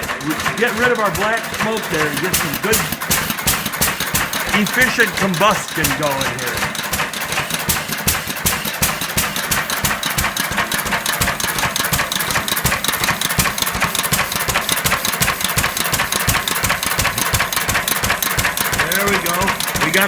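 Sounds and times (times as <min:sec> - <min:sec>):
single-cylinder engine clattering: 0:00.0 - 0:20.0.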